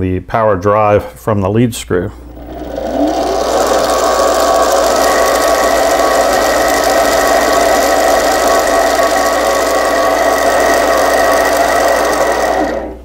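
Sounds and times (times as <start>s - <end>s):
lathe whining: 2.2s - 13.0s.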